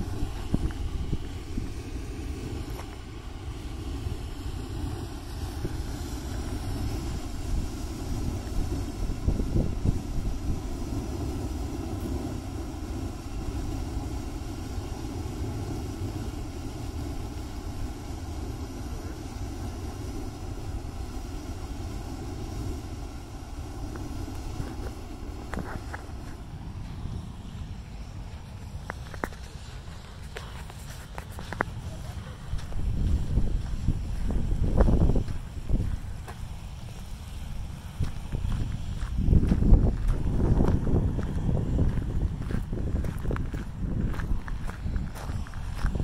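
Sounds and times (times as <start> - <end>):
geyser water and steam rushing: 0.0 - 46.0
wind buffeting microphone: 0.0 - 46.0.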